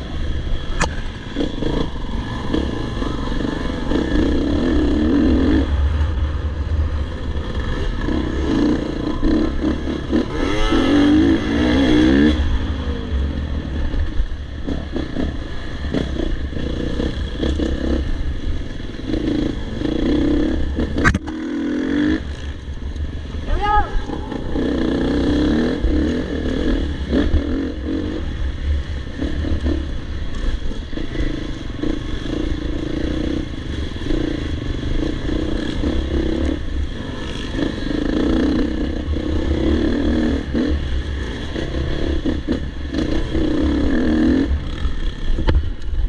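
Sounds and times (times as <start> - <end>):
dirt bike engine revving: 6.9 - 14.0, 14.6 - 22.6, 23.4 - 45.3.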